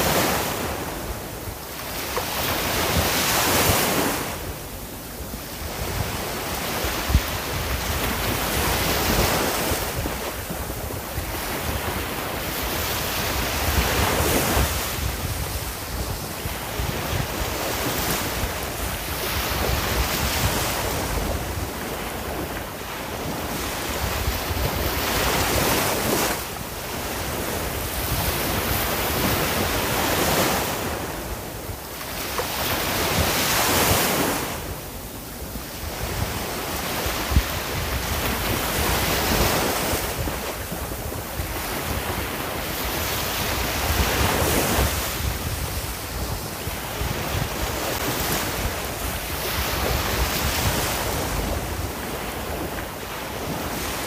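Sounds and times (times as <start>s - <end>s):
sea waves breaking: 0.0s - 54.0s
wind rumble on microphone: 0.0s - 54.0s.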